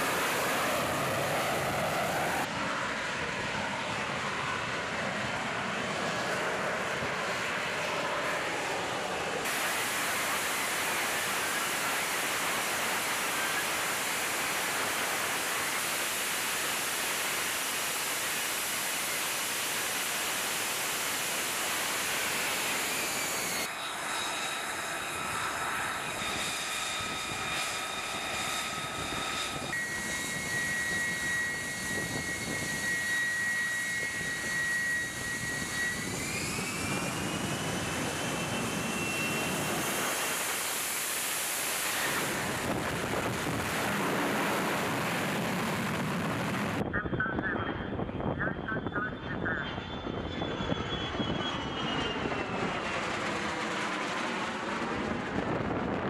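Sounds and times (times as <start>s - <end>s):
high whine of steady tones: 0.0s - 56.0s
steady jet noise: 0.0s - 56.0s.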